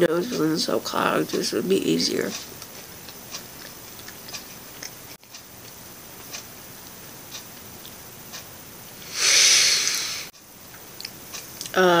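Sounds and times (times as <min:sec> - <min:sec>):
steady low hiss: 0:00.0 - 0:12.0
faint regular ticking: 0:00.2 - 0:08.6, 0:10.3 - 0:11.8.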